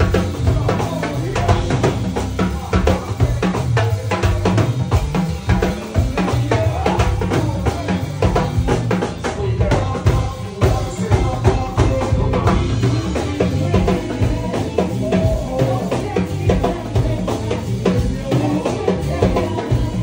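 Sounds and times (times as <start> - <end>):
band drum and percussion groove: 0.0 - 20.0.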